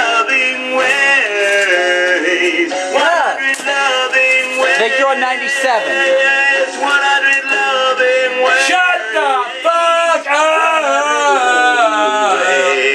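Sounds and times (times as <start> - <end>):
man singing: 0.0 - 12.9
musical accompaniment: 0.0 - 12.9.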